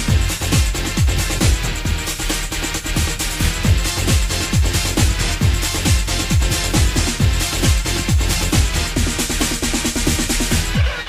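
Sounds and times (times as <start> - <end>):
kick drum: 0.0 - 10.9
electronic dance music: 0.0 - 11.0.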